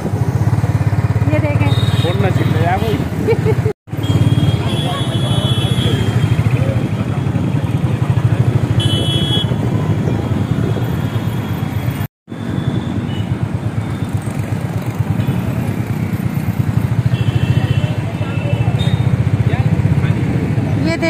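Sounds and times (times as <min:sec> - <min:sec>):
motorcycle engine running: 0:00.0 - 0:11.3, 0:12.7 - 0:21.0
road and wind noise: 0:00.0 - 0:21.0.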